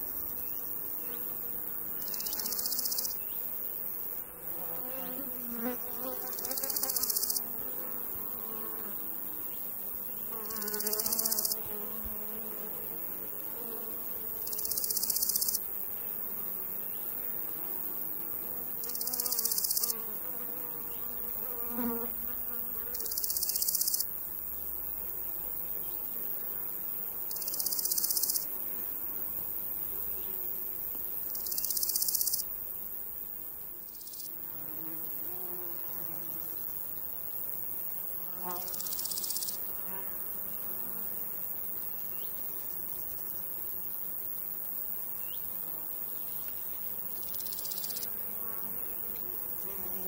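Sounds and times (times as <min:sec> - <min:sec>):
cricket chirring: 0:00.0 - 0:50.0
flying insects buzzing: 0:00.0 - 0:50.0
high insect hiss: 0:00.0 - 0:50.0.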